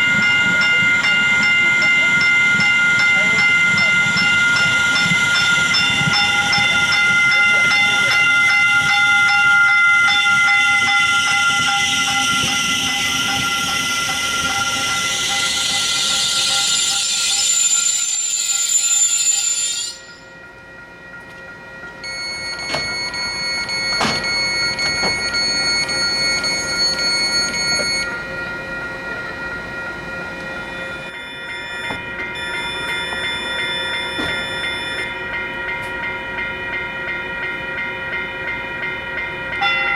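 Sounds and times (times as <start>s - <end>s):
steady high-pitched tones: 0.0s - 39.9s.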